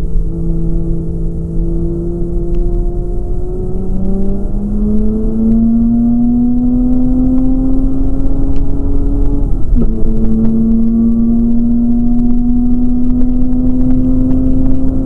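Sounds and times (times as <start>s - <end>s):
rotary engine accelerating: 0.0s - 15.0s.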